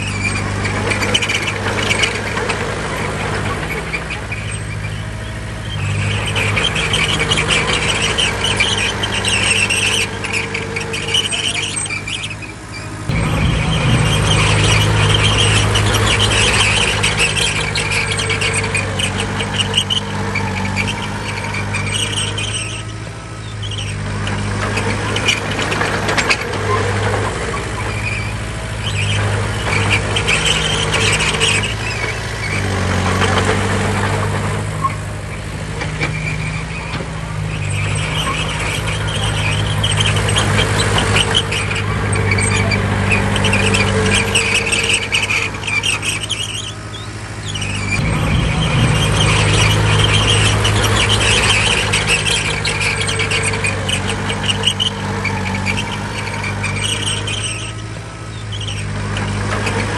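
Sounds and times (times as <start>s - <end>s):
diesel engine under load: 0.0s - 59.9s
steel tracks squealing and clanking: 0.0s - 59.9s.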